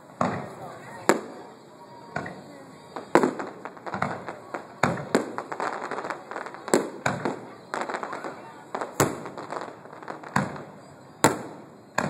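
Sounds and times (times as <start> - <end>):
firework crackling: 0.0 - 12.0
firework shells booming: 0.0 - 12.0.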